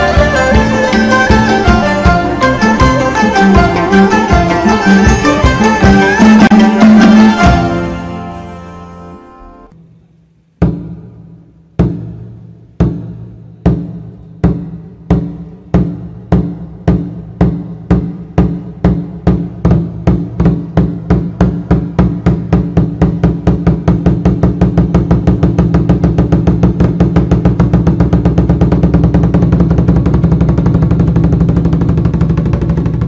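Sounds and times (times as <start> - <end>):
large drum beating into a fast roll: 0.0 - 8.0, 10.6 - 33.0.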